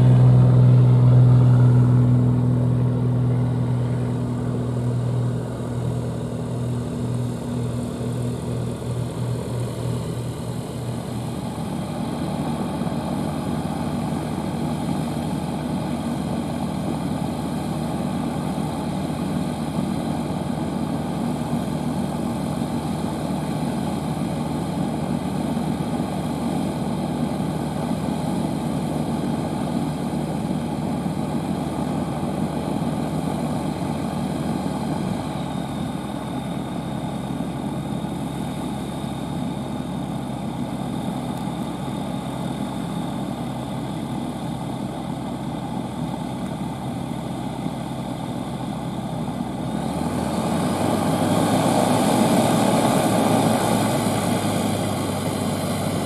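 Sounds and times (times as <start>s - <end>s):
propeller engine running: 0.0s - 56.0s.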